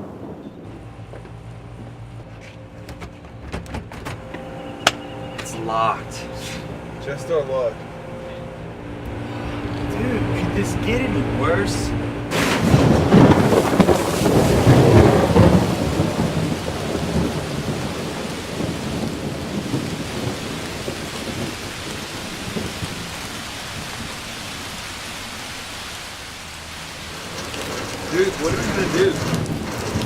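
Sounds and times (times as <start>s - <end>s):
steady rain: 0.0s - 2.8s, 4.2s - 30.0s
thunder rumbling: 0.0s - 5.4s, 11.3s - 30.0s.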